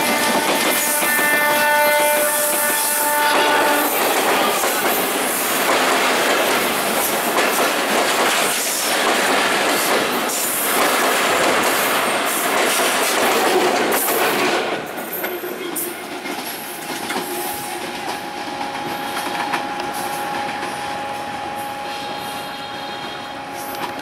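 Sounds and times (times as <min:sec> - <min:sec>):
wheel and rail noise: 0:00.0 - 0:24.0.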